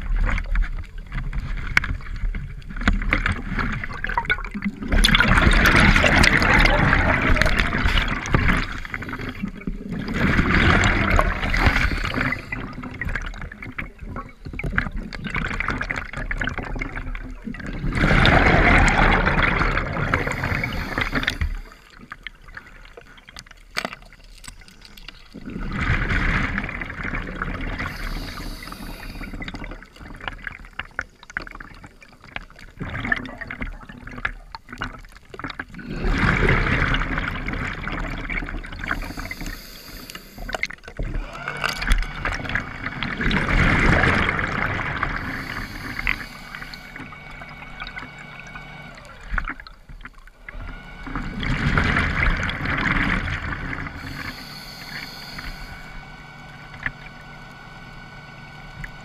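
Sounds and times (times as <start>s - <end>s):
underwater bubbles gurgling: 0.0s - 59.0s.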